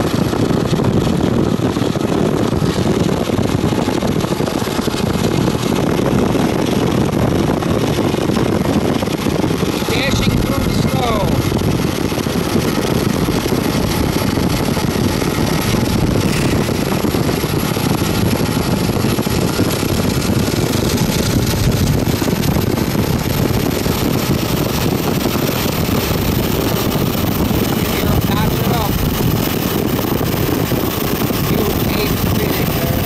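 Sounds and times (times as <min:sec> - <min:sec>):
diesel freight locomotives rumbling: 0:00.0 - 0:33.0.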